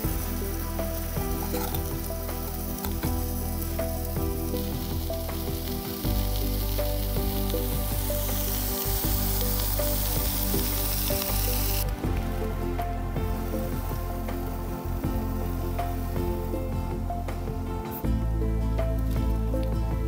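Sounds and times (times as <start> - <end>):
vegetables sizzling in a pan: 0.0 - 17.1.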